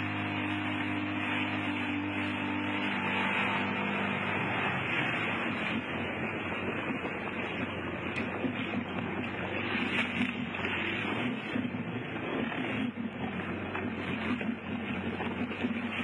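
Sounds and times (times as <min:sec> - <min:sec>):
water rushing and spraying: 0:00.0 - 0:16.0
watercraft engine hum: 0:00.0 - 0:16.0.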